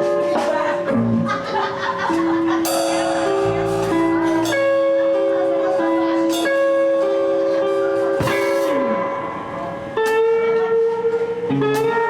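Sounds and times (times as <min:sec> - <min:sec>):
electric guitar notes ringing: 0:00.0 - 0:12.0.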